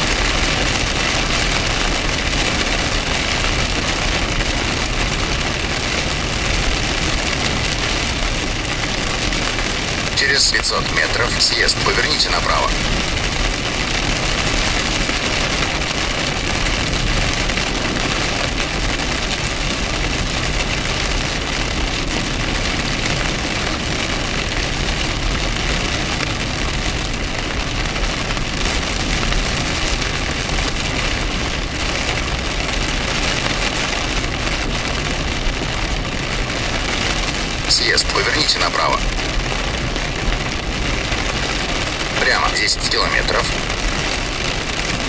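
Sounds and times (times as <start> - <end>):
rain on car windshield: 0.0 - 45.0.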